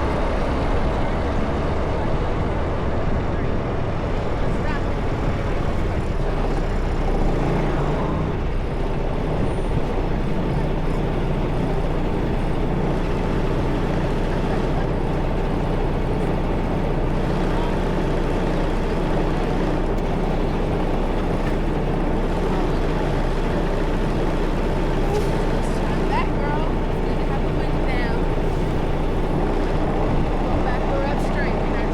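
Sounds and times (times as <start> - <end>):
diesel truck engine running: 0.0 - 31.9.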